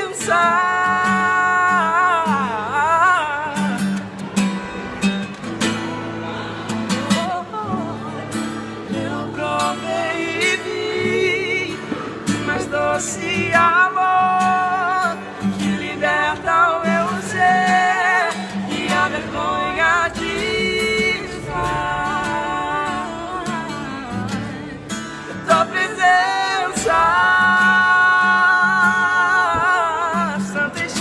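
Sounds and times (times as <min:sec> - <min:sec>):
acoustic guitar: 0:00.0 - 0:31.0
person singing long held notes: 0:06.1 - 0:31.0.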